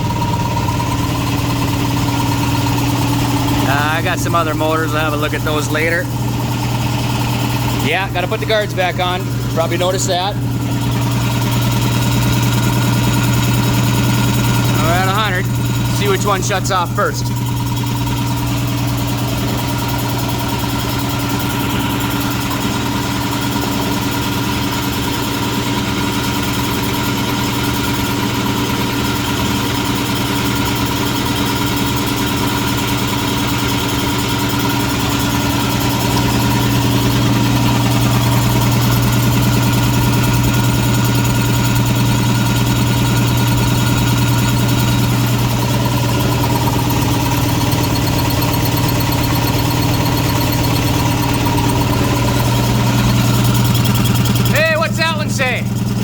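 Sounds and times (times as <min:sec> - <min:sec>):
air compressors running: 0:00.0 - 0:56.0.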